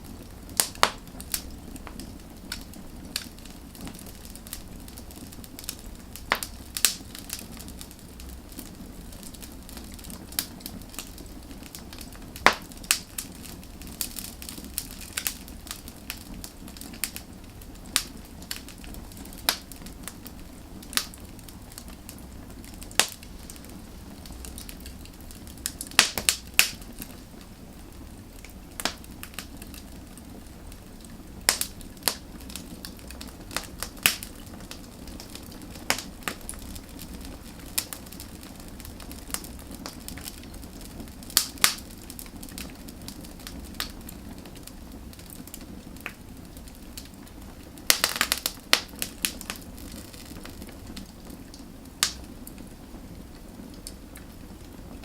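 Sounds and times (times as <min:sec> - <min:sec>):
fire hissing: 0:00.0 - 0:55.0
wood fire crackling and popping: 0:00.0 - 0:55.0.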